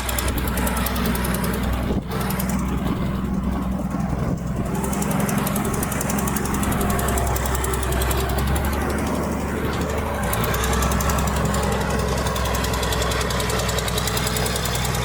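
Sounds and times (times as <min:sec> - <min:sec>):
bulldozer diesel engine running: 0:00.0 - 0:15.0
rapid clatter: 0:00.0 - 0:15.0.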